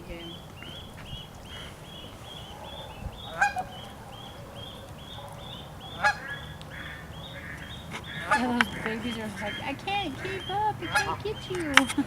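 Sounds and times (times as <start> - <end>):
goose honking: 0.0 - 12.0
goslings peeping: 0.0 - 12.0.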